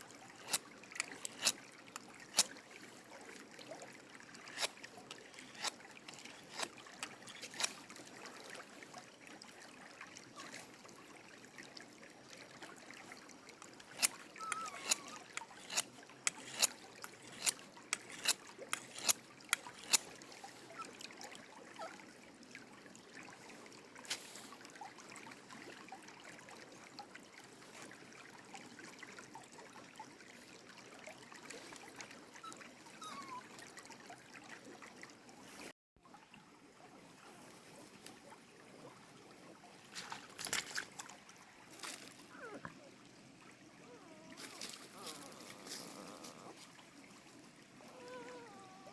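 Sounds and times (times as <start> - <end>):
creek water trickling: 0.0 - 48.9.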